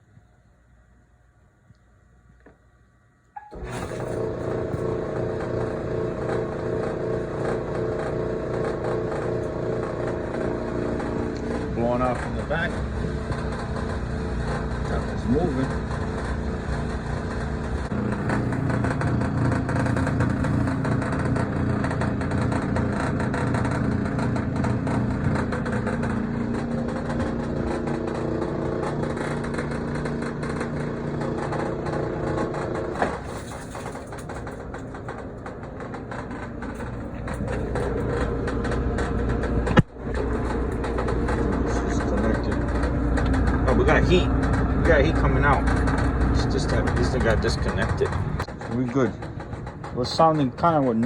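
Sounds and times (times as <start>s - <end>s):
clothes dryer humming: 1.7s - 51.0s.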